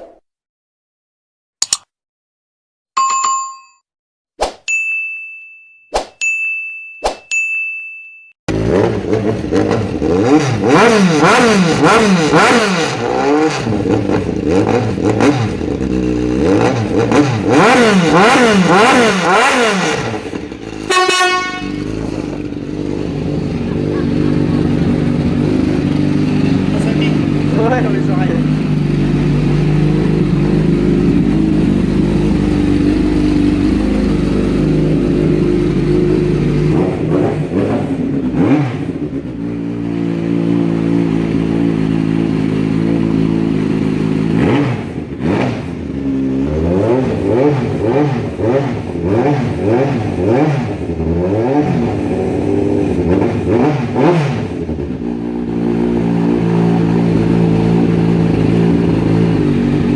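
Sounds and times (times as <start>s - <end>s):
motorcycle engine idling and revving: 8.5s - 59.9s.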